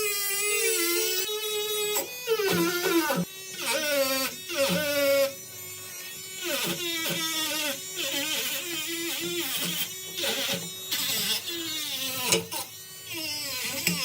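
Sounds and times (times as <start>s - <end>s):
handheld electric tool whining: 0.0s - 14.0s.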